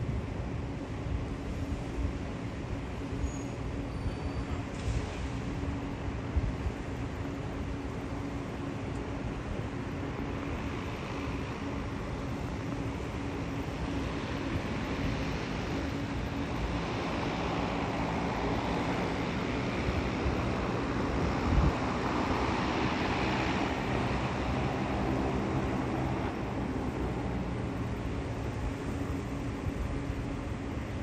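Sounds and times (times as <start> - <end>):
distant engines and traffic: 0.0 - 31.0.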